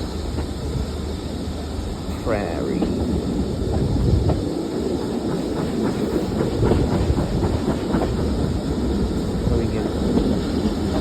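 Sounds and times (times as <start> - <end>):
steam train rumbling: 0.0 - 11.0
wheels clicking over rail joints: 1.9 - 11.0.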